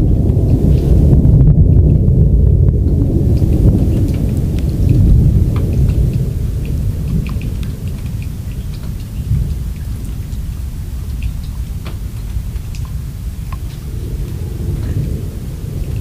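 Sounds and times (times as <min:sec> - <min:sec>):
raindrops ticking: 0:00.0 - 0:16.0
thunder rumbling: 0:00.0 - 0:16.0.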